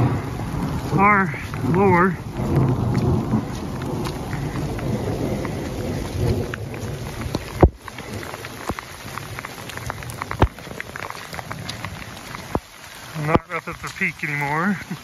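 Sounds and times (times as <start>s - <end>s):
thunder rumble: 0.0s - 14.0s
rain falling: 0.0s - 15.0s.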